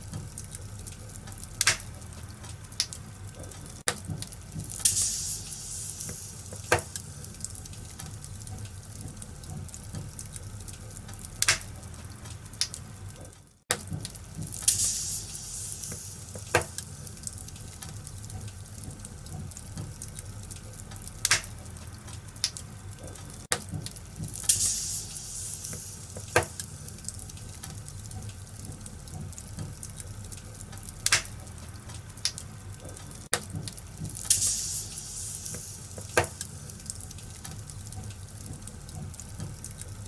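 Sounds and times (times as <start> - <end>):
fire popping: 0.0 - 40.0
wood fire crackling: 0.0 - 40.0.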